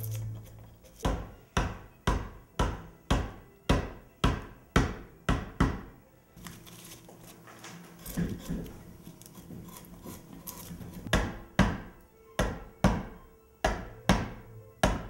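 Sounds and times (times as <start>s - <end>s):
carving tool chopping wood: 0.1s - 6.0s, 8.0s - 15.0s.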